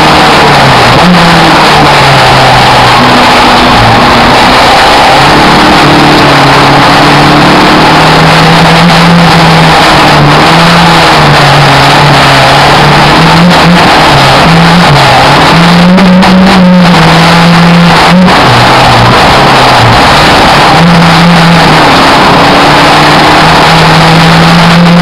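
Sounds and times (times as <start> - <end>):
race car engine revving: 0.0 - 25.0.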